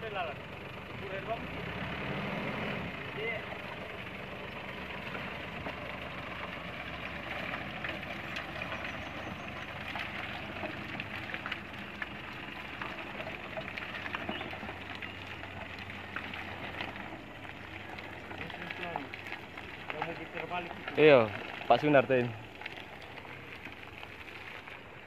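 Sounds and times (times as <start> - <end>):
low engine hum: 0.0 - 25.0
tyres churning mud: 0.0 - 25.0.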